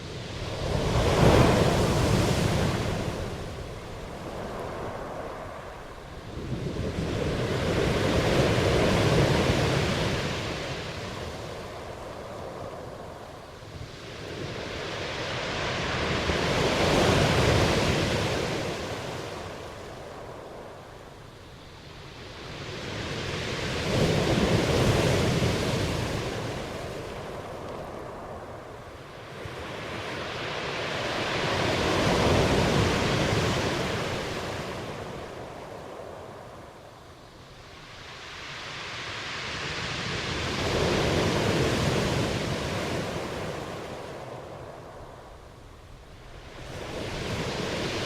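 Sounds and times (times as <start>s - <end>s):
ocean waves washing in: 0.0s - 48.0s.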